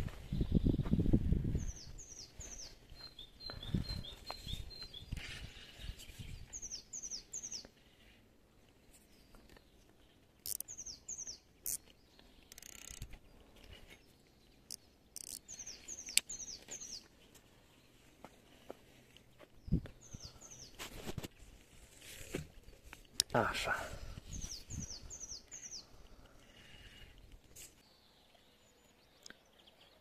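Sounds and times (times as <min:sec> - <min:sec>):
songbird singing: 0:00.0 - 0:21.7, 0:22.5 - 0:30.0.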